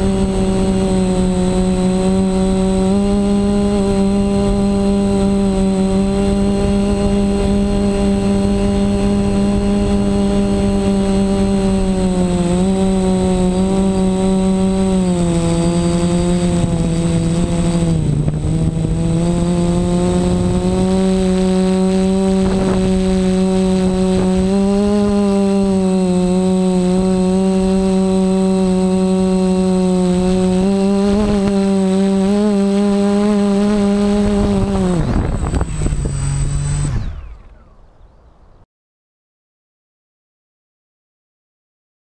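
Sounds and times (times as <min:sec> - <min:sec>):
propeller wash rush: 0:00.0 - 0:37.8
drone motors whining: 0:00.0 - 0:38.3.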